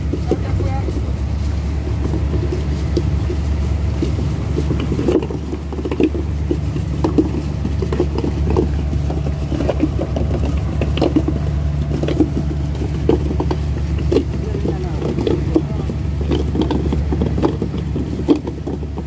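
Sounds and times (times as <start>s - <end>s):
boat engine droning: 0.0s - 19.0s
short knocks and patter: 0.0s - 19.0s.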